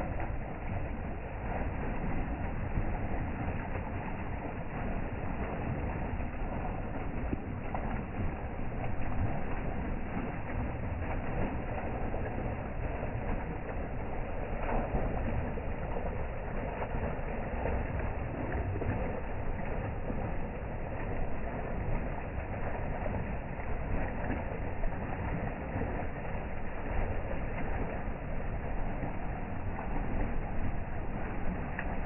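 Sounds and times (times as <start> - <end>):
water gushing from pipe: 0.0 - 32.0.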